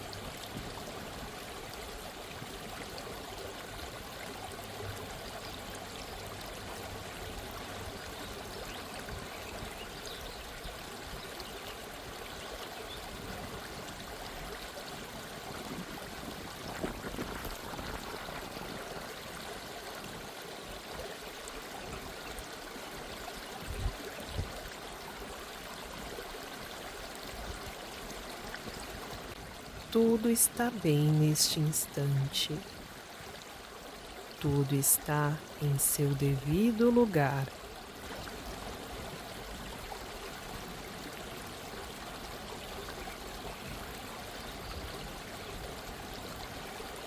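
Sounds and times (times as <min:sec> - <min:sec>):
stream running: 0:00.0 - 0:47.0.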